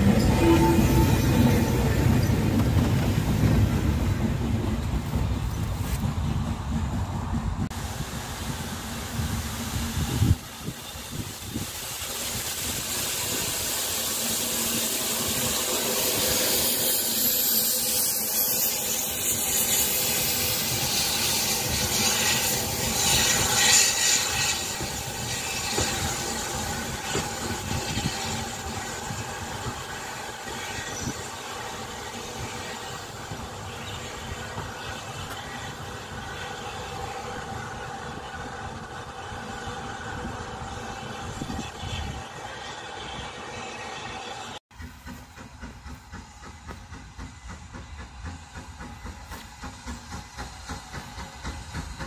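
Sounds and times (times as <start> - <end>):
steam locomotive passing: 0.0 - 52.0
train running on rails: 0.0 - 52.0.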